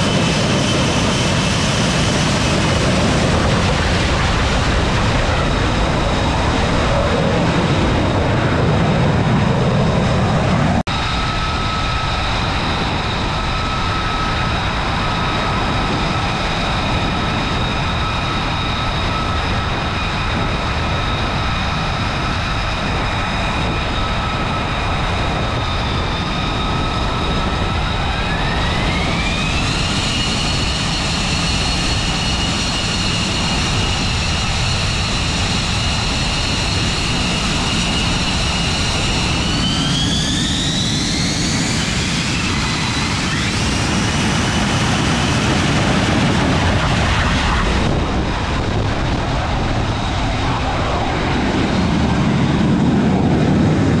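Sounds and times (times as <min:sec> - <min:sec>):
jet engine high whine: 0:00.0 - 0:54.0
jet engine roar: 0:00.0 - 0:54.0.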